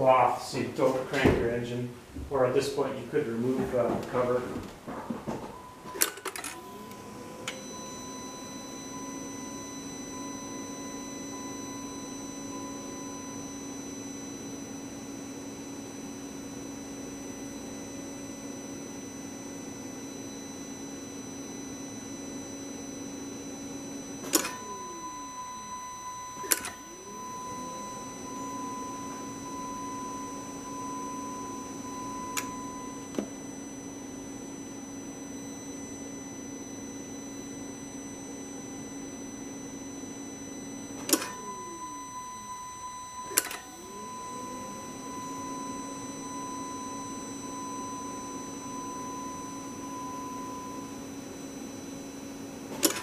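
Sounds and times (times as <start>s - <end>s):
electric fuel pump humming: 2.8s - 53.0s.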